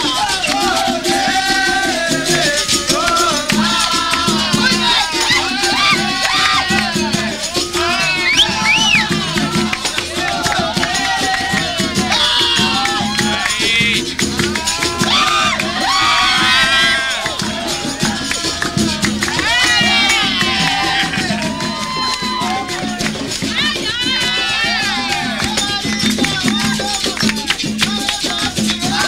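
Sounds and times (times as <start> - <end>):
drumming: 0.0 - 29.0
group singing: 0.0 - 29.0
hands clapping: 0.0 - 29.0
shaken rattle: 0.0 - 29.0.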